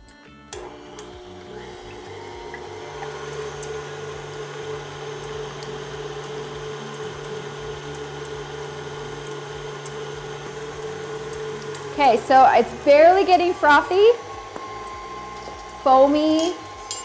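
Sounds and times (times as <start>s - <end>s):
stand mixer whisking: 0.6s - 17.0s.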